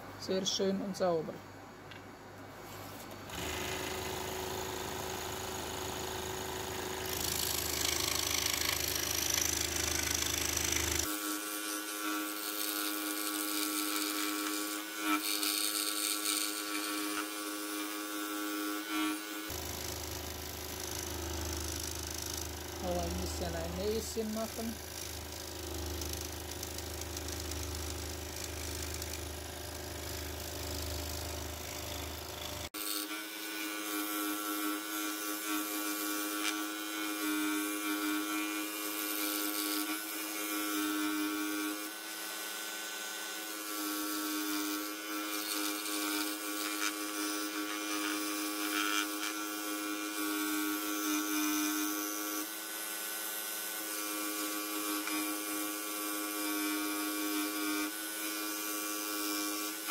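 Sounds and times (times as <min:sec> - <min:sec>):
scroll saw cutting wood: 0:03.3 - 0:59.9.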